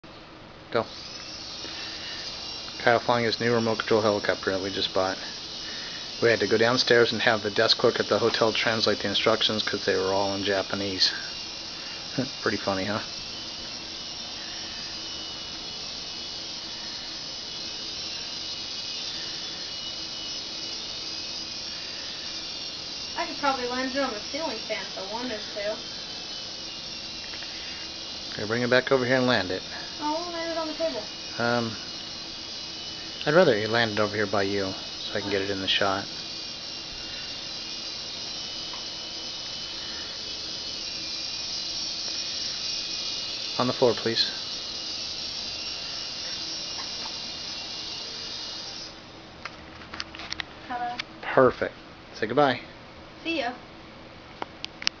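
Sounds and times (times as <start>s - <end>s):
toy helicopter buzzing whine: 0.7s - 51.0s, 53.2s - 53.6s.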